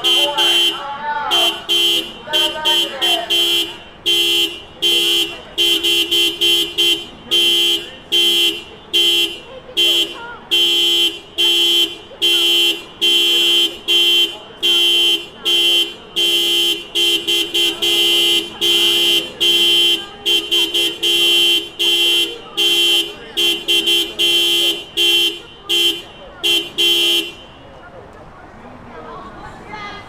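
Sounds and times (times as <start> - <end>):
car horn honking: 0.0 - 28.0.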